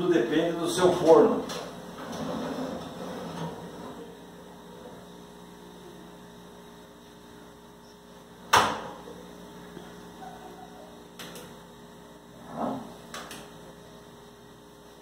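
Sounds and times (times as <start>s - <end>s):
steady electric hum: 0.0s - 15.0s.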